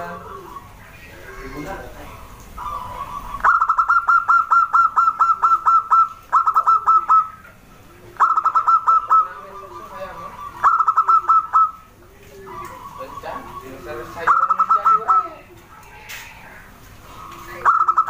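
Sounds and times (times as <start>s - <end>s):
soft low dove cooing: 0.0s - 18.0s.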